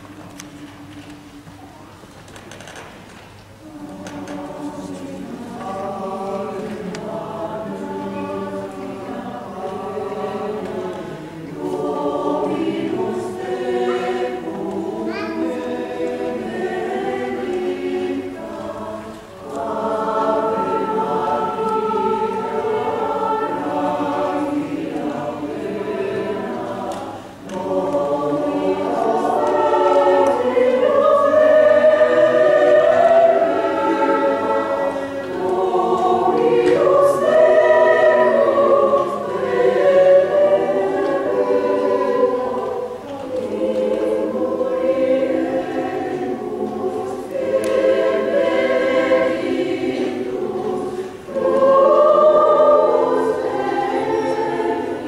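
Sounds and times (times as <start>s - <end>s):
mixed choir singing unaccompanied: 0.0s - 1.6s, 3.5s - 55.0s.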